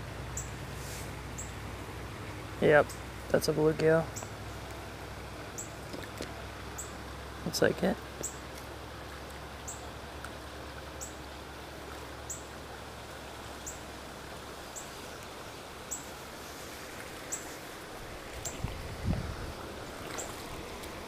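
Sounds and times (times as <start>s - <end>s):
creek hiss: 0.0s - 21.0s.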